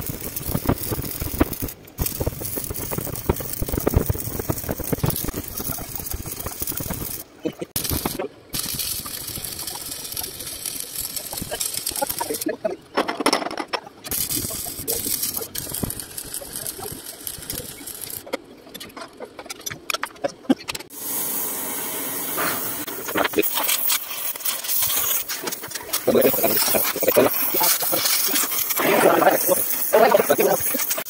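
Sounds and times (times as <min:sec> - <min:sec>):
steady hiss: 0:00.0 - 0:12.6, 0:14.1 - 0:18.2, 0:20.9 - 0:31.0
arc welding crackling sizzle: 0:00.0 - 0:12.8, 0:14.0 - 0:18.8, 0:20.7 - 0:31.0.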